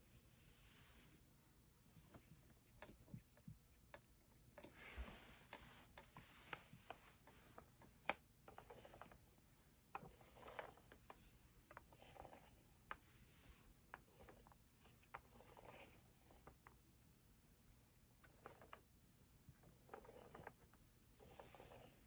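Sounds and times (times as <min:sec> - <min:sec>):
lint roller rolling over fur: 0:00.3 - 0:16.8, 0:18.1 - 0:18.8, 0:19.6 - 0:22.0.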